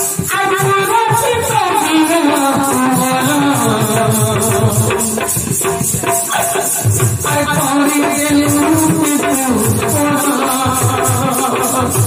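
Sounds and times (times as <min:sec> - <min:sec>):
steady rattle beat: 0:00.0 - 0:12.0.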